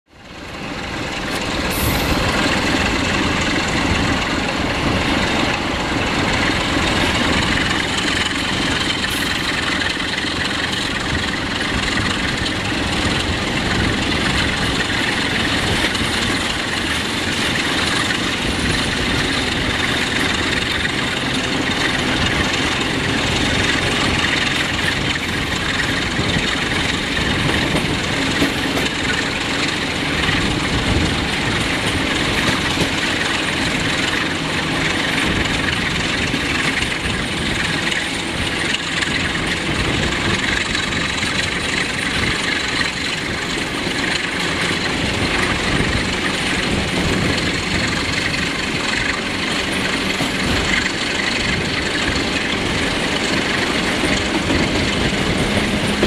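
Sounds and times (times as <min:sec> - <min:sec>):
train wheel and running noise: 0:00.1 - 0:56.0.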